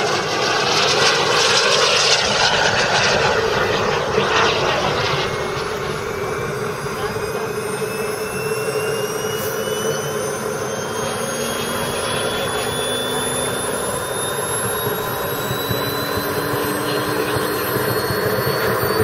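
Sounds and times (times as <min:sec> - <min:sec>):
gas turbine rushing and whining: 0:00.0 - 0:19.0.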